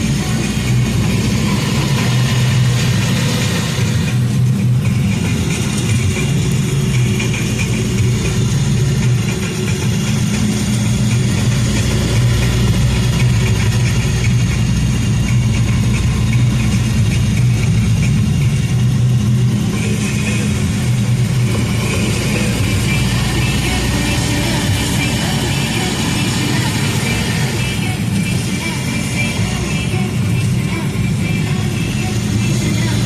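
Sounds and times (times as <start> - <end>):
engine droning steadily: 0.0 - 33.0.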